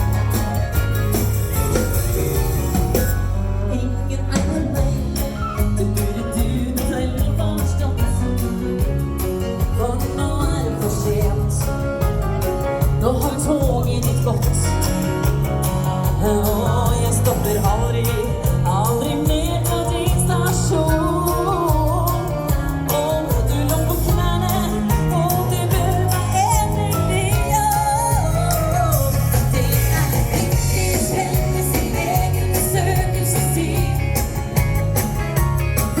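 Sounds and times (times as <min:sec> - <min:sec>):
live country dance band: 0:00.0 - 0:36.0
person singing: 0:03.4 - 0:36.0.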